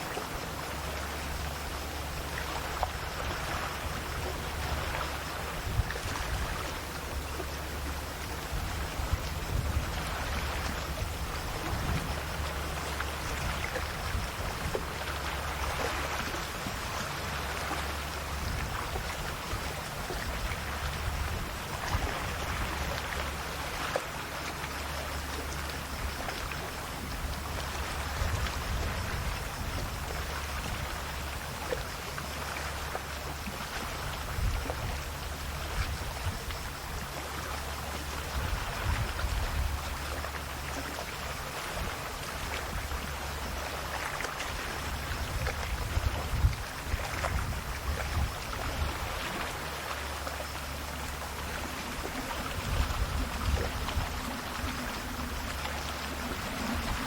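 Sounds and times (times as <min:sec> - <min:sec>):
sea waves lapping at shore: 0:00.0 - 0:57.0.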